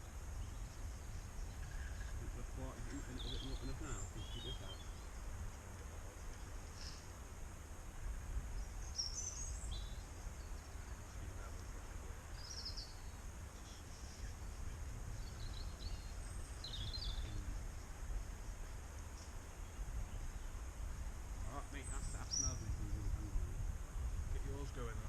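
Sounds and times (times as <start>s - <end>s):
low outdoor rumble: 0.0s - 25.0s
small birds chirping: 0.0s - 25.0s.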